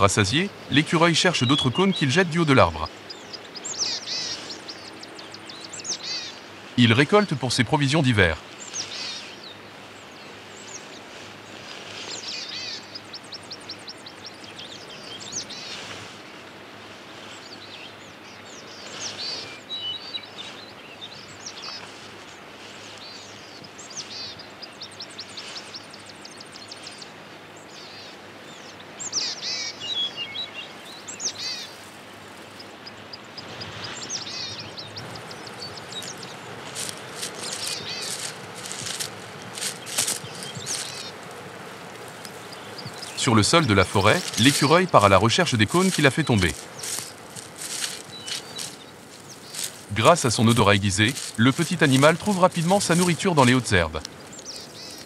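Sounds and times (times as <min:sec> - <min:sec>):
birds chirping and trilling: 0:00.0 - 0:55.0
forest ambience hiss: 0:00.0 - 0:55.0.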